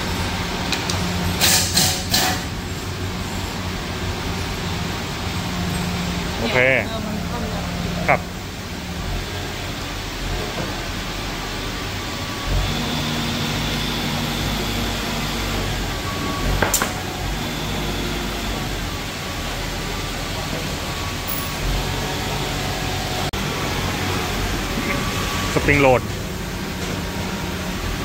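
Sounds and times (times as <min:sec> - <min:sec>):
workshop machinery hum: 0:00.0 - 0:28.0.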